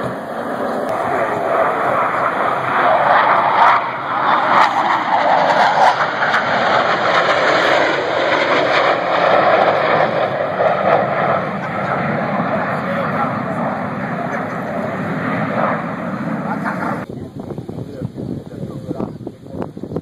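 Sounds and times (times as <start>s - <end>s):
jet engines flying past low: 0.0s - 20.0s.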